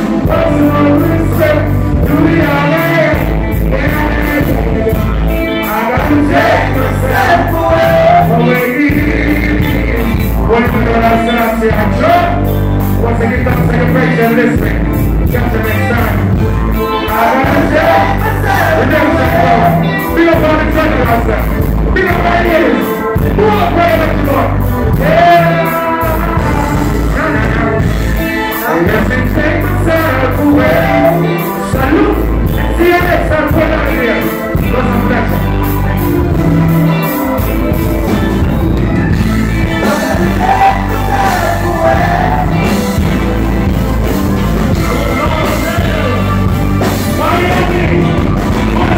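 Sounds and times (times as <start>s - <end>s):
live reggae band playing: 0.0s - 48.9s
man singing lead vocals: 0.0s - 48.9s.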